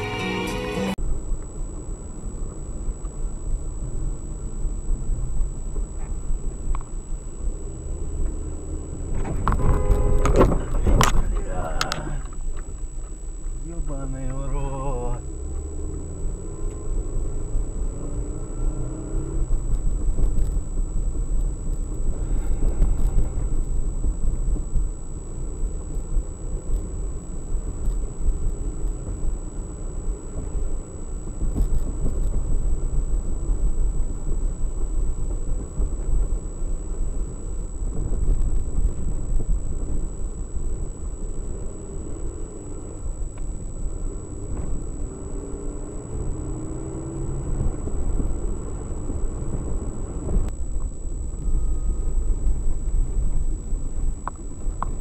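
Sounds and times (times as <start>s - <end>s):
car driving on wet road: 0.0s - 55.0s.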